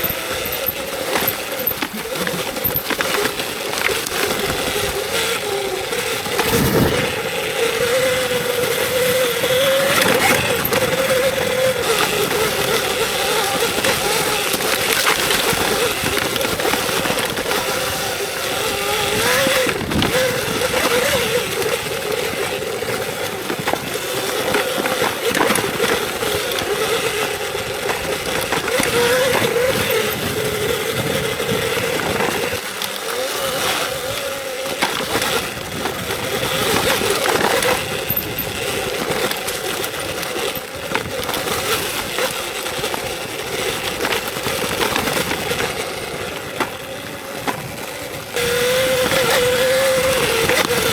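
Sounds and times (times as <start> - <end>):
electric motor whine: 0.0 - 50.9.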